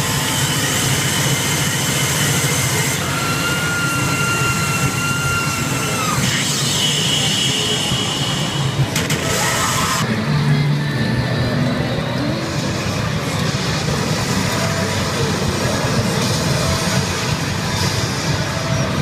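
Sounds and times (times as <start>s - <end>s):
pachinko parlor din: 0.0s - 19.0s
pachinko machine electronic effects: 0.1s - 19.0s.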